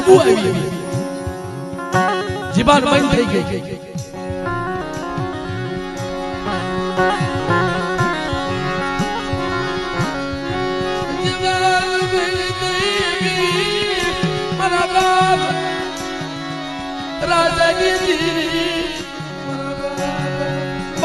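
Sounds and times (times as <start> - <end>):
wavering melody with drone notes: 0.0 - 21.0.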